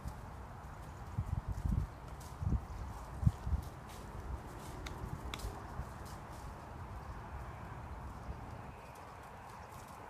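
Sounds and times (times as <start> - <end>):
hoofbeats on grass: 0.0 - 10.0.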